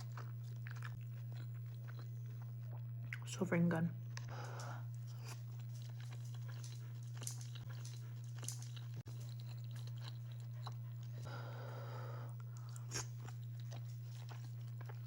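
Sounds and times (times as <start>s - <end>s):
chewing with wet smacks: 0.0s - 3.3s, 4.1s - 11.3s, 12.4s - 15.0s
low electrical hum: 0.0s - 15.0s.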